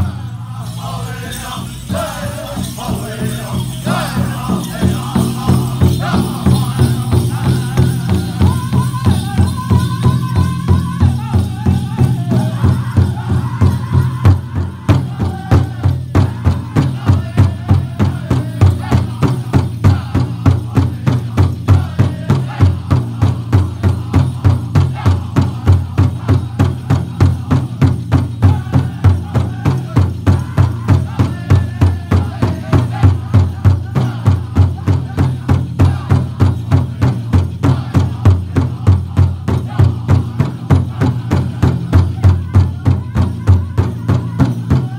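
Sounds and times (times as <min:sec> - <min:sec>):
bells jingling: 0:00.0 - 0:44.9
big drum steady beat: 0:00.0 - 0:44.9
group singing: 0:00.0 - 0:44.9.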